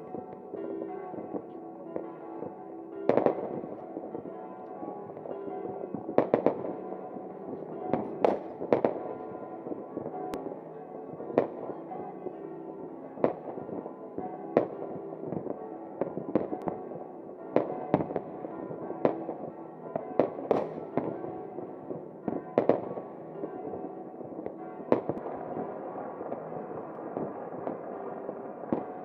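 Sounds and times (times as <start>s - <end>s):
fireworks bangs: 0.0s - 10.5s, 13.2s - 29.0s
background music: 0.0s - 29.0s.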